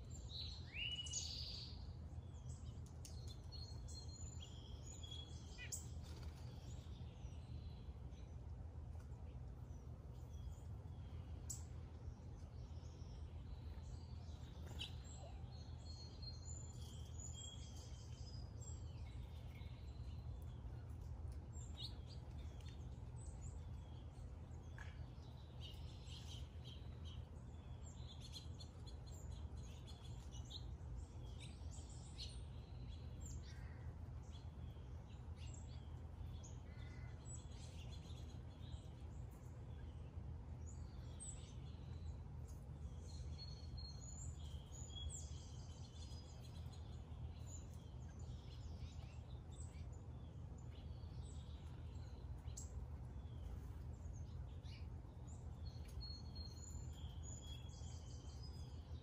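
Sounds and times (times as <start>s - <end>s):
birds chirping and calling: 0.0s - 8.4s, 9.6s - 59.0s
low background rumble: 1.2s - 59.0s.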